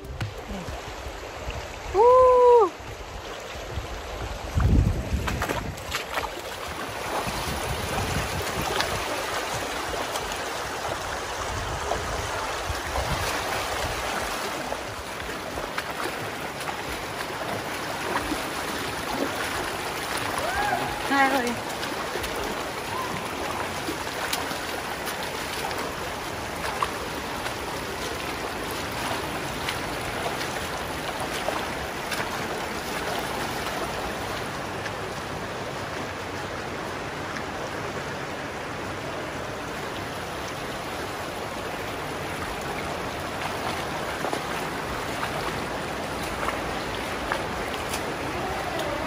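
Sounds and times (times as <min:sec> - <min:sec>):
creek water rushing over rocks: 0:00.0 - 0:49.0.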